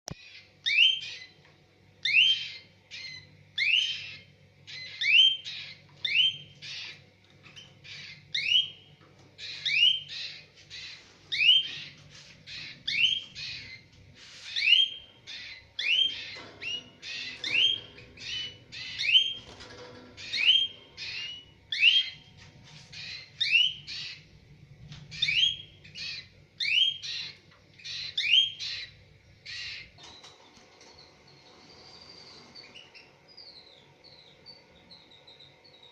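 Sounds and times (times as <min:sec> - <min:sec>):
canaries chirping: 0:00.1 - 0:35.9
faint low hum: 0:00.1 - 0:35.9.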